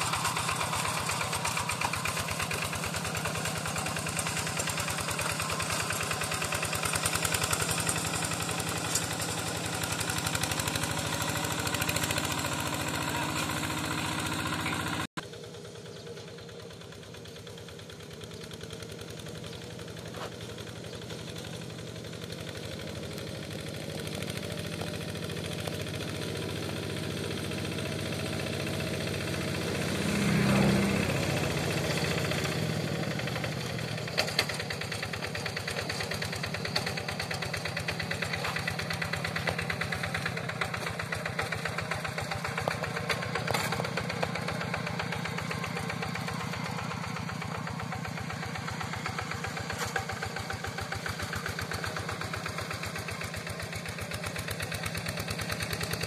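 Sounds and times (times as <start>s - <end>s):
hand tractor diesel engine running: 0.0s - 56.0s.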